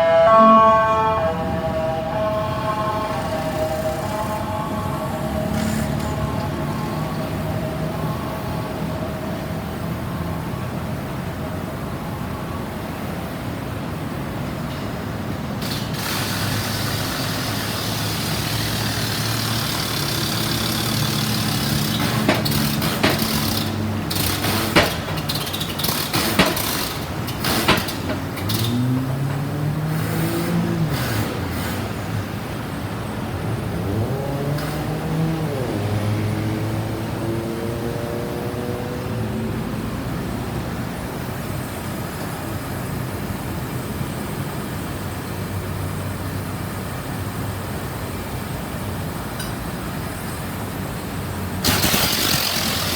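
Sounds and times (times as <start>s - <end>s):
heavy vehicle engines revving: 0.0s - 52.9s.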